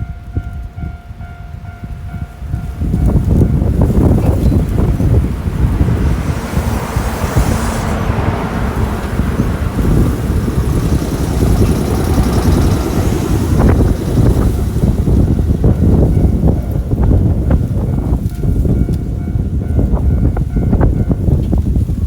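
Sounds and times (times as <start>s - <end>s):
train rumbling slowly: 0.0s - 22.0s
wind buffeting microphone: 0.0s - 22.0s.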